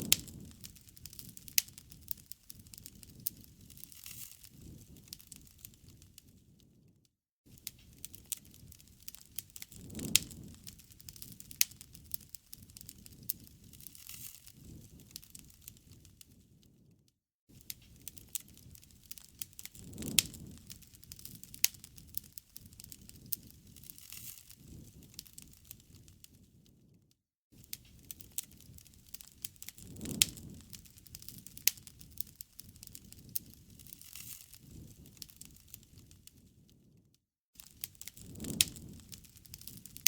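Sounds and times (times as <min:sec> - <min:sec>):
campfire crackling: 0:00.0 - 0:06.8, 0:07.6 - 0:16.6, 0:17.6 - 0:27.0, 0:27.6 - 0:36.7, 0:37.6 - 0:40.0.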